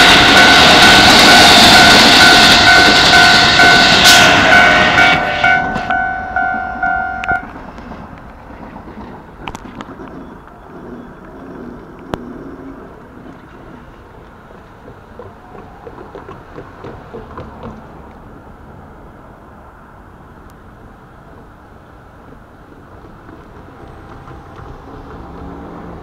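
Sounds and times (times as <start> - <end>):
train rumbling on tracks: 0.0 - 26.0
wheels clicking and rattling on rails: 0.0 - 26.0.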